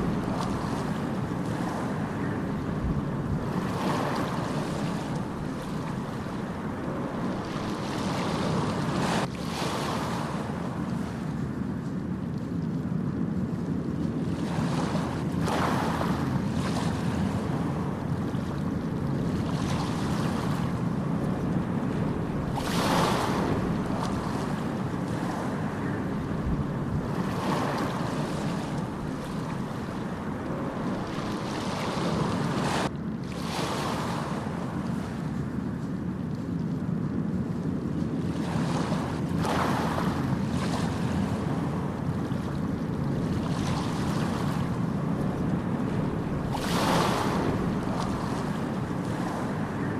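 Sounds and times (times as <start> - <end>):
ocean surf rumble: 0.0 - 49.9
waves washing in: 0.0 - 49.9
wind buffeting microphone: 0.0 - 49.9.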